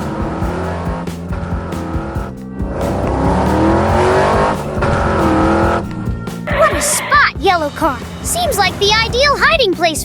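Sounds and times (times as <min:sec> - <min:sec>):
car engine revving: 0:00.0 - 0:09.6
background music: 0:00.0 - 0:10.0.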